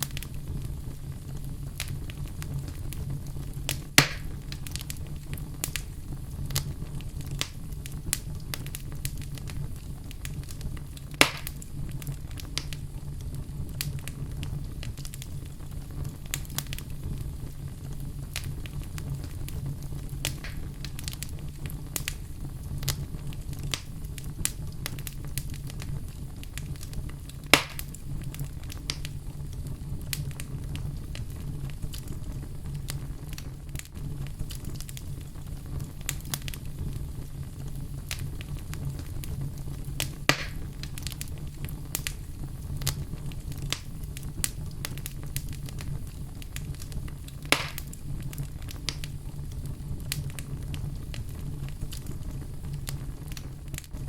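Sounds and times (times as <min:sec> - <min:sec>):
fire pops: 0:00.0 - 0:54.0
wood fire crackling: 0:00.0 - 0:54.0.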